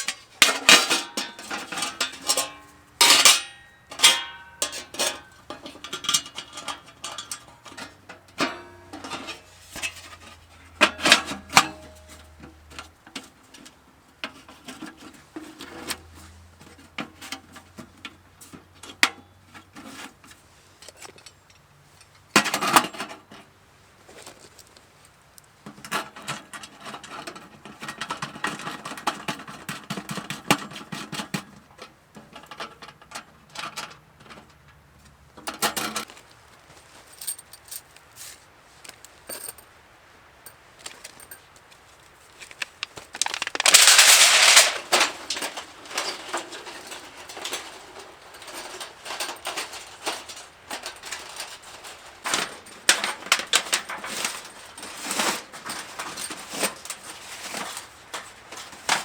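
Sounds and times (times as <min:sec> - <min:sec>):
camping gear clattering and rustling: 0:00.0 - 0:59.0.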